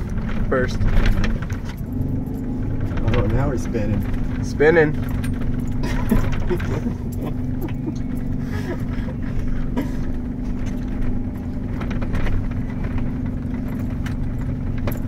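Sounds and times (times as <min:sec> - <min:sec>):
car engine running: 0:00.0 - 0:15.0
knocks and rattles: 0:00.0 - 0:15.0
tyres churning through snow: 0:00.0 - 0:15.0.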